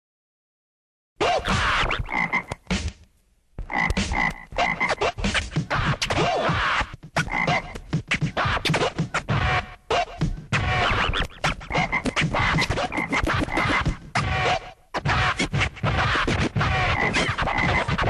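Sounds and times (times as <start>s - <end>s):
turntable record scratching: 1.2s - 18.0s.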